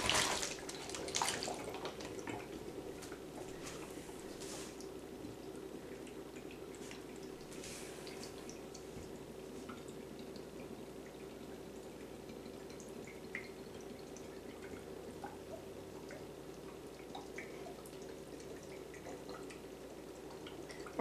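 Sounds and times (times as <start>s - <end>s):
faint steady hum: 0.0s - 21.0s
water bubbling and dripping: 0.0s - 21.0s.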